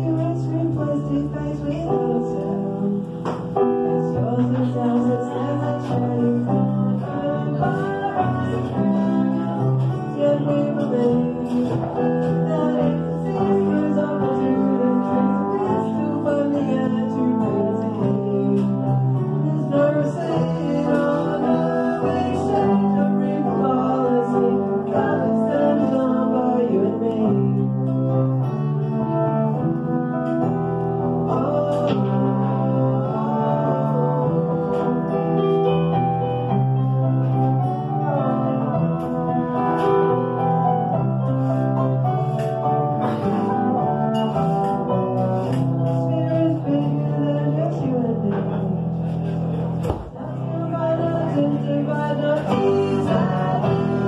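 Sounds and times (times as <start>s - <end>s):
acoustic guitar: 0.0s - 54.0s
electric keyboard: 0.0s - 54.0s
person singing: 0.0s - 54.0s.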